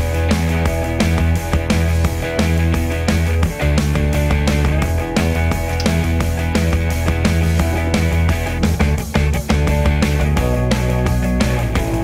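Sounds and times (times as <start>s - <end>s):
rock music with guitar and bass: 0.0s - 12.0s.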